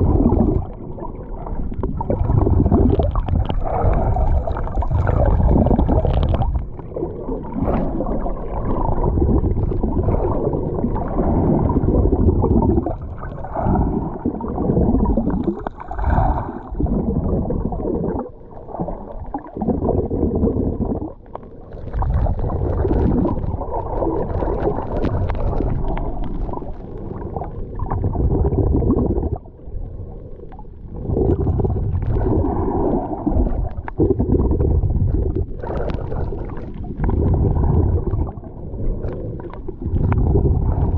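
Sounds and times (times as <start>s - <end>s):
muffled sea water churning: 0.0s - 40.9s.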